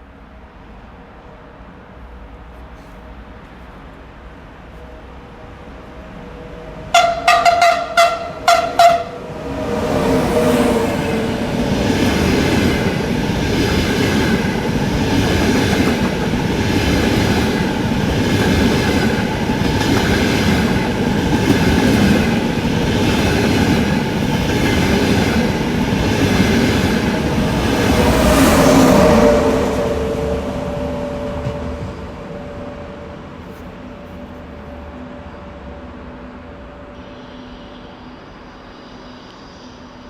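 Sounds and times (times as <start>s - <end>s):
high-speed train passing: 0.0s - 40.0s.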